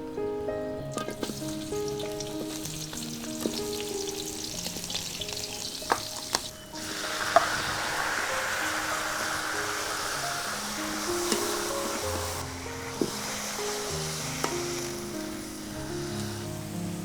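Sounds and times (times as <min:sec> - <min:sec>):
food sizzling in hot oil: 0:00.7 - 0:17.0.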